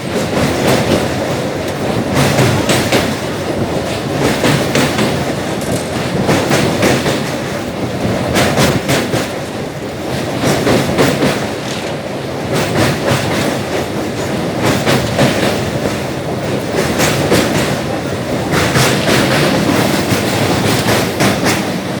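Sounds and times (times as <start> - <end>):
train rumble: 0.0 - 22.0
wheels clattering over rail joints: 0.0 - 22.0.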